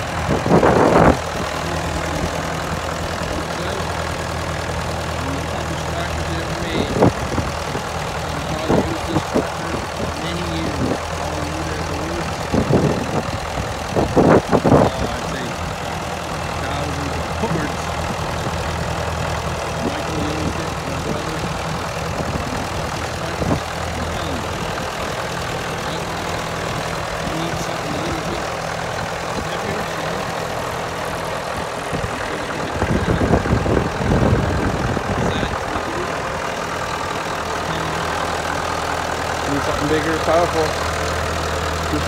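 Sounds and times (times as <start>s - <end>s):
rough low rumble: 0.0s - 42.0s
tractor engine running: 0.0s - 42.0s.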